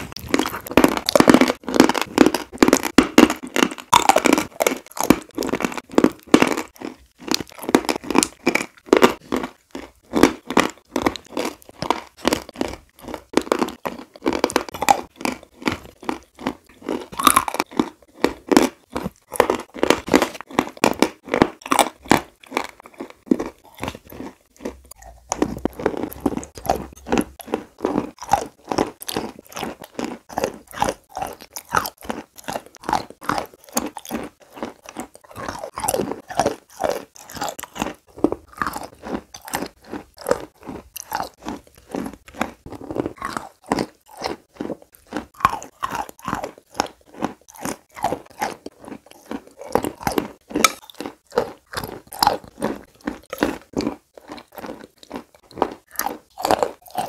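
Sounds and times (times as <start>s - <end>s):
close chewing and crunching: 0.0s - 57.0s
wet mouth sounds: 0.0s - 57.0s.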